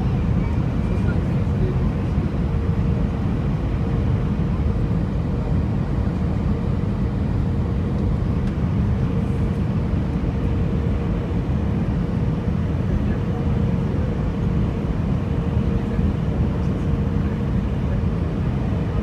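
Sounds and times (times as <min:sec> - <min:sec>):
aircraft cabin engine drone: 0:00.0 - 0:19.0.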